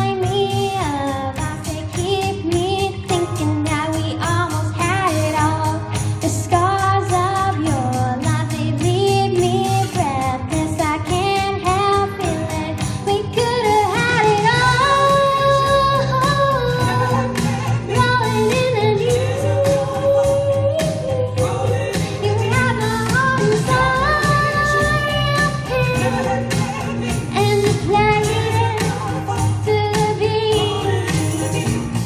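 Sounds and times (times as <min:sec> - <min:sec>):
girl singing into microphone: 0:00.0 - 0:26.5, 0:27.3 - 0:31.4
backing music with steady beat: 0:00.0 - 0:32.0.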